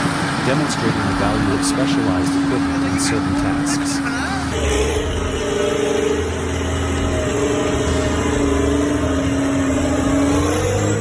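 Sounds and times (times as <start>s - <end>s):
heavy diesel engine running: 0.0s - 11.0s
steady whine: 0.0s - 11.0s.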